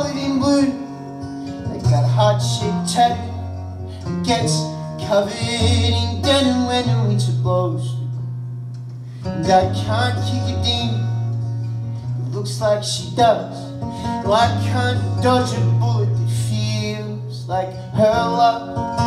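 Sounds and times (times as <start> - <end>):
solo acoustic guitar: 0.0 - 19.0.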